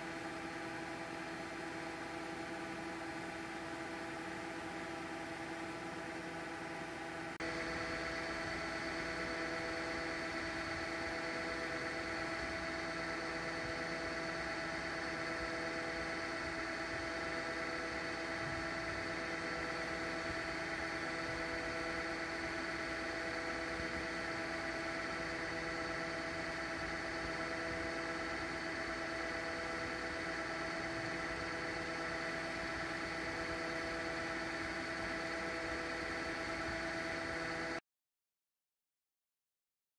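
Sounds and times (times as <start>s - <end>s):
lathe humming with steady whine: 0.0s - 37.8s.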